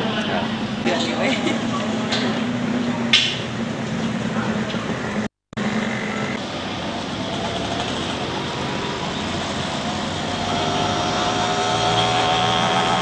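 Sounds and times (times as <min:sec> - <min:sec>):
motorcycle engines passing: 0:00.0 - 0:13.0
road traffic: 0:00.0 - 0:13.0.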